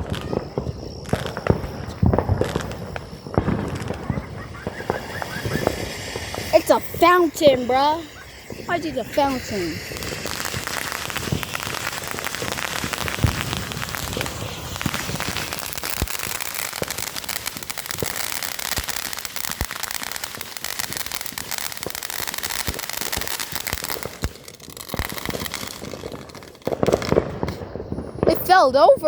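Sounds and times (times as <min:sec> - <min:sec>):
firework hissing and crackling: 0:00.0 - 0:29.0.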